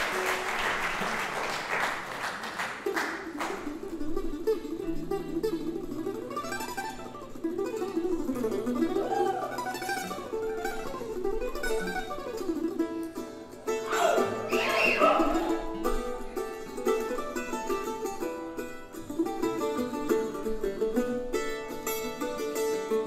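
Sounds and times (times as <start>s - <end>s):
mandolin picking melody: 0.0s - 1.2s, 2.8s - 23.0s.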